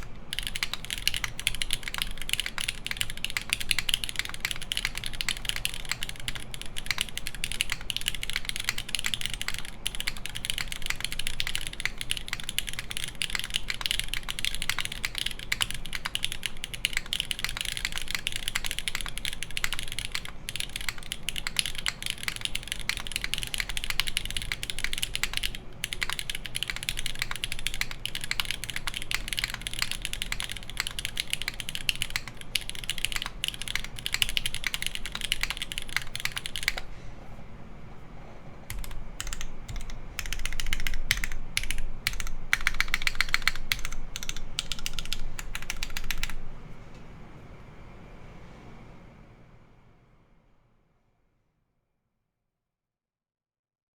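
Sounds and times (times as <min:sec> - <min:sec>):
fast typing on mechanical keyboard: 0:00.0 - 0:36.9, 0:38.7 - 0:46.5.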